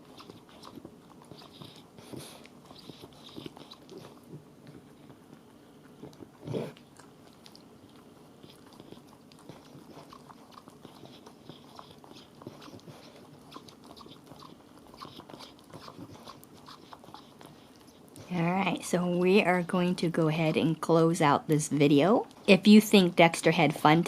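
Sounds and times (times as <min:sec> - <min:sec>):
dog chewing and gnawing: 0:00.0 - 0:20.8.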